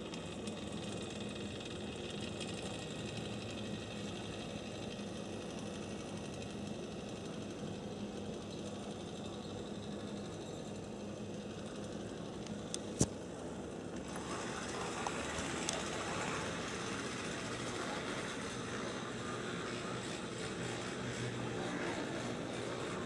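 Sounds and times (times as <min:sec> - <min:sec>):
model train motor whirring: 0:00.0 - 0:23.0.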